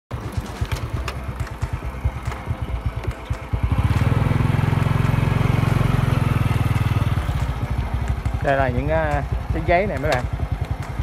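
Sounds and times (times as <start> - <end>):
small motorbike engine: 0.1 - 11.0.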